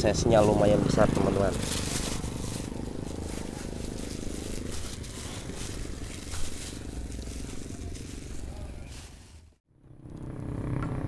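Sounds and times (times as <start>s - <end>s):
motorcycle engine passing by: 0.0s - 11.0s
plastic bag crinkling: 0.4s - 9.5s.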